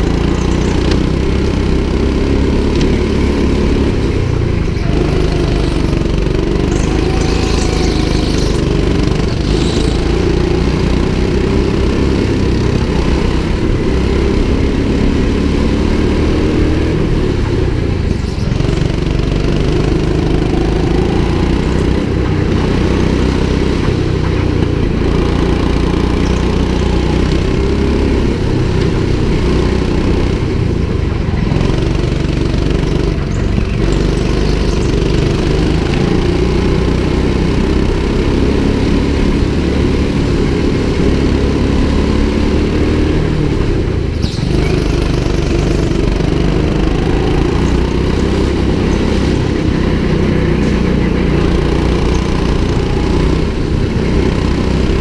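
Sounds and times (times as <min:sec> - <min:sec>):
go-kart engine revving: 0:00.0 - 0:55.0
other go-kart engines: 0:00.0 - 0:55.0.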